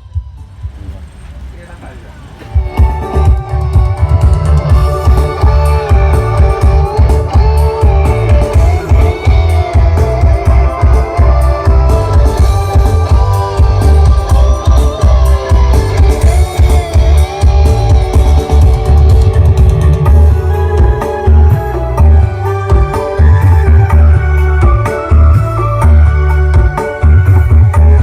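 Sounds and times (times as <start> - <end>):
loud heavy bass music: 2.6 - 28.0
guitar-like wavering melody: 2.7 - 27.7.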